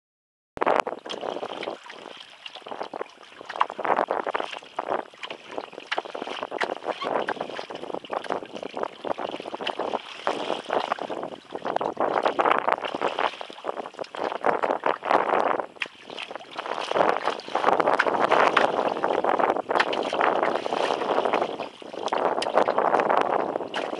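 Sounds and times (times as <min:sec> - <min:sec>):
small waves splashing against kayak: 0:00.9 - 0:23.9.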